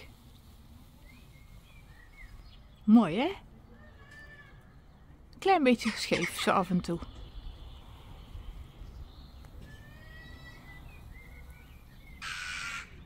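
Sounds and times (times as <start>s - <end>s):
bird singing faintly: 0.0s - 13.0s.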